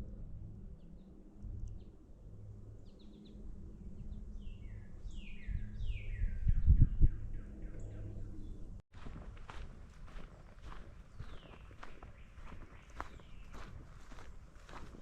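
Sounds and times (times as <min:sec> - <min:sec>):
low microphone rumble: 0:00.0 - 0:15.0
songbird singing: 0:02.6 - 0:15.0.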